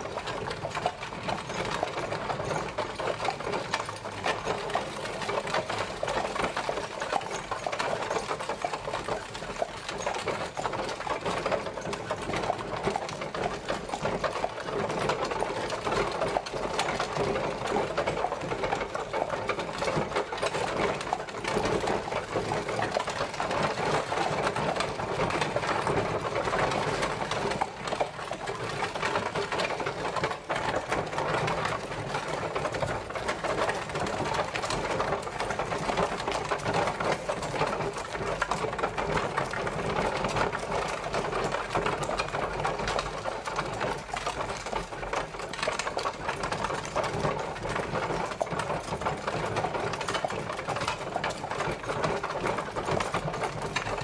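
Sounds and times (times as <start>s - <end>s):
carriage rattling clatter: 0.0s - 54.0s.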